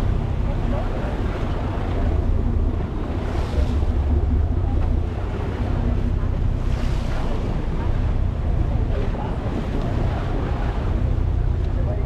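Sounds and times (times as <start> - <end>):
boat engine drone: 0.0 - 12.0
wash of sea water: 0.0 - 12.0
wind buffeting microphone: 0.0 - 12.0.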